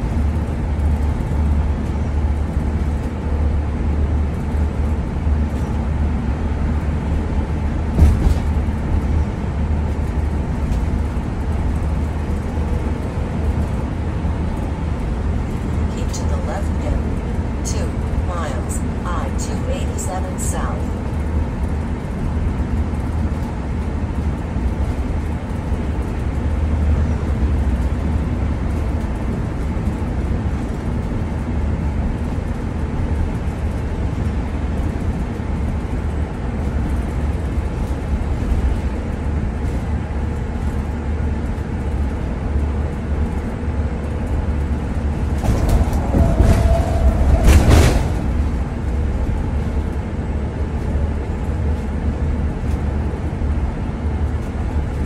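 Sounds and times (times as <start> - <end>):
engine and tyre drone: 0.0 - 55.0.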